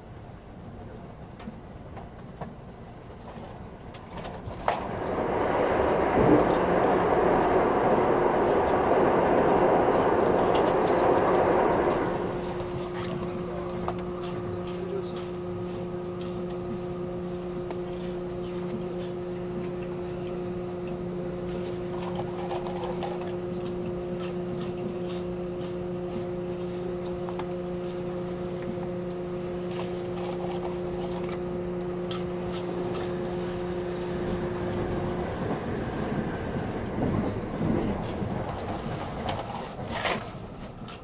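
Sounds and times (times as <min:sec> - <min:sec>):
train cabin hum: 0:00.0 - 0:41.0
passing train rushing: 0:03.7 - 0:24.6, 0:25.2 - 0:40.8.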